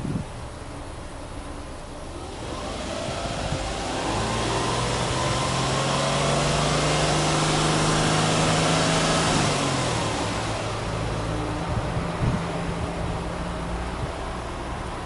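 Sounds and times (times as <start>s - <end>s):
car engine revving: 2.0s - 15.0s.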